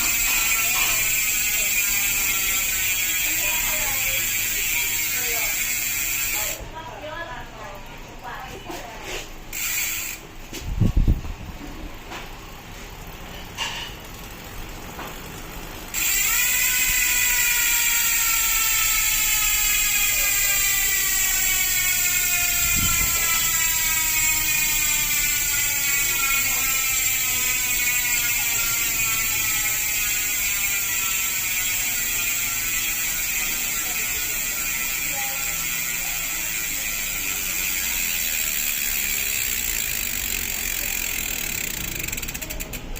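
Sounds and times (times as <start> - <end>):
bicycle hub ratchet buzz: 0.0 - 8.5, 9.1 - 42.9.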